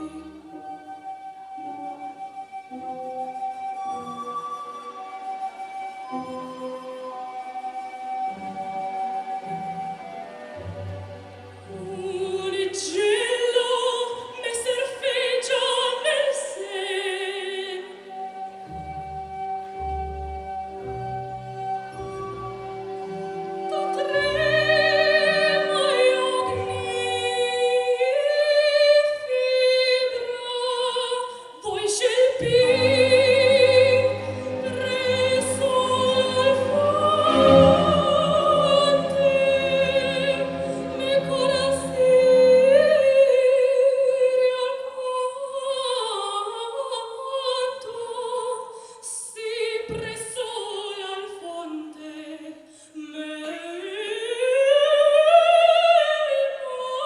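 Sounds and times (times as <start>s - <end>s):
woman singing opera: 0.0s - 22.2s, 22.8s - 57.0s
musical accompaniment: 0.0s - 46.9s.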